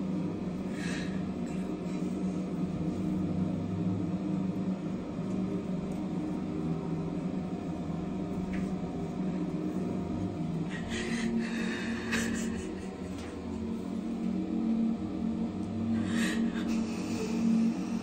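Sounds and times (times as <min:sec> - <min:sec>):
low mechanical hum: 0:00.0 - 0:18.0
steady tones: 0:00.0 - 0:18.0.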